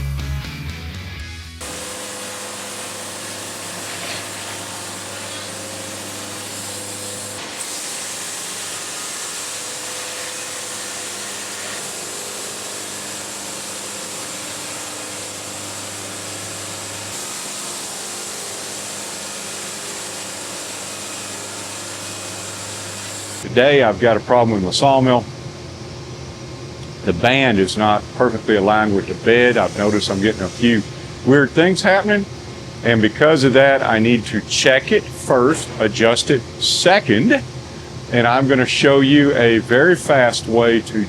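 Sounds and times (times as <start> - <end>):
band sawmill running: 1.6 - 41.0.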